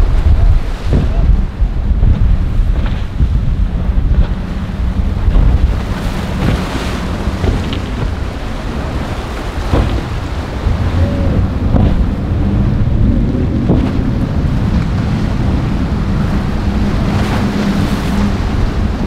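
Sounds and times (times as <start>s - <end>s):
rough surf washing: 0.0s - 19.0s
wind buffeting microphone: 0.0s - 19.0s.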